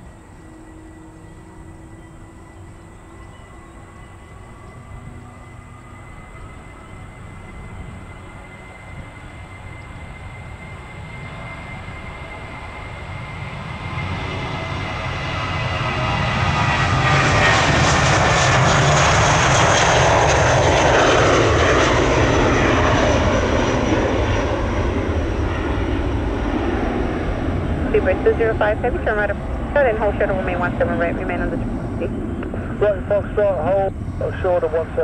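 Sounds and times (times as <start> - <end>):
jet engines roaring past: 0.0 - 35.0.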